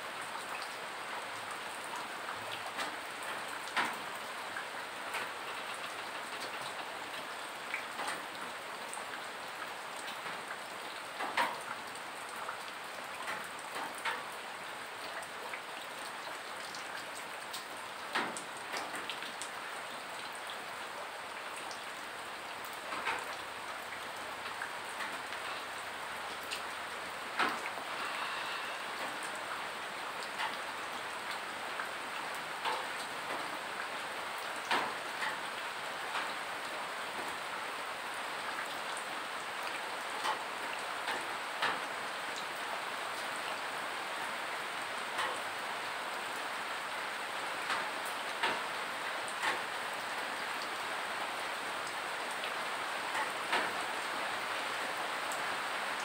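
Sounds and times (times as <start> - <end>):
steady rain falling: 0.0 - 56.0
heavy rainwater drips: 0.1 - 56.0.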